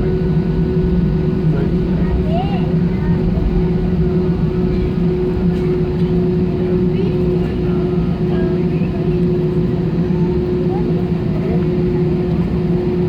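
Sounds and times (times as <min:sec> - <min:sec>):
airliner cabin droning hum: 0:00.0 - 0:13.0
faint passenger voices: 0:00.0 - 0:13.0.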